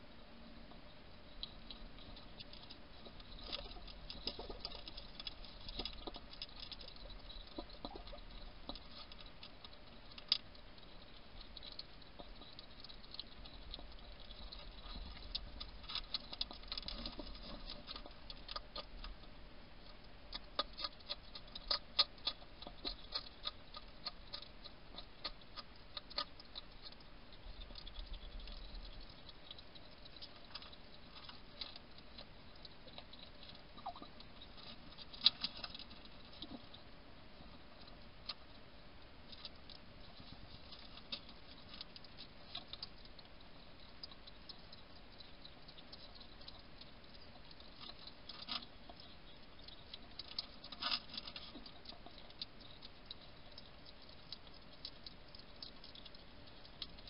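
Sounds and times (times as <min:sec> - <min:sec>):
hedgehog crunching dry food: 0:01.4 - 0:57.0.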